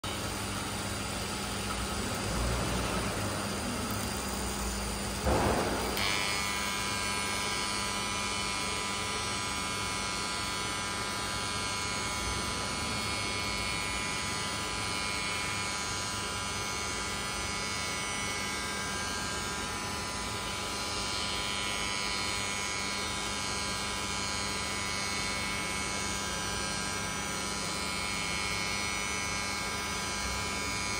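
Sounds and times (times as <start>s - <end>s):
cutter milling plastic: 0.0s - 30.9s
router spindle whine: 0.0s - 30.9s.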